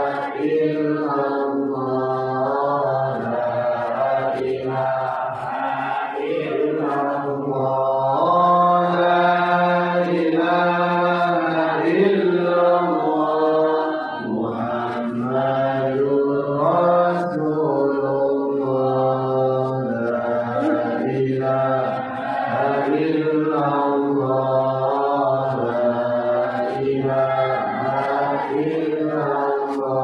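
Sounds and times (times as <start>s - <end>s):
person chanting melodically: 0.0s - 30.0s.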